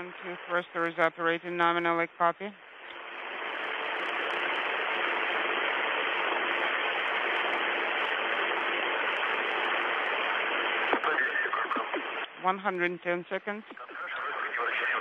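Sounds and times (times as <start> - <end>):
faint steady hum: 0.0 - 15.0
radio static hiss: 0.0 - 15.0.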